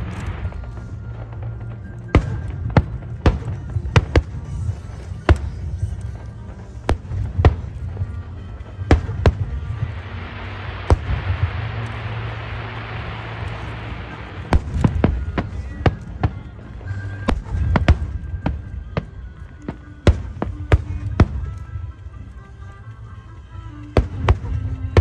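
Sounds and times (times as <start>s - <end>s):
fireworks bangs: 0.0s - 22.9s, 23.8s - 25.0s
background music: 0.0s - 25.0s.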